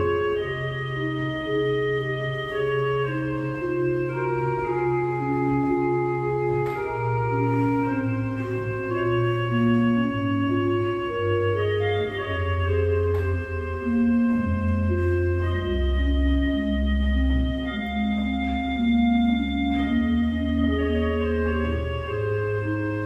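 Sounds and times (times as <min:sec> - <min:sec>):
church organ playing: 0:00.0 - 0:23.0.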